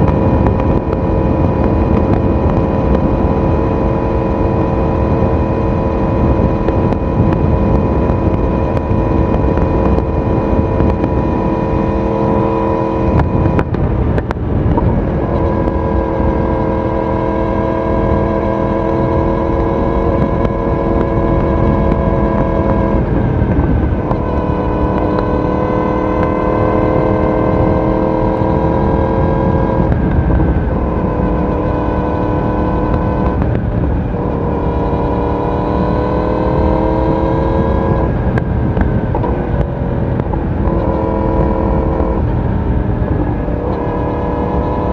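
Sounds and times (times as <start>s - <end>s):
motorcycle engine and exhaust: 0.0s - 44.9s
wind and road rush: 0.0s - 44.9s.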